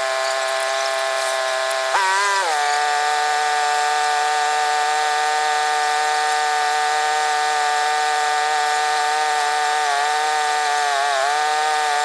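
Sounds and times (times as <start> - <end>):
engine buzzing hum: 0.0 - 12.0.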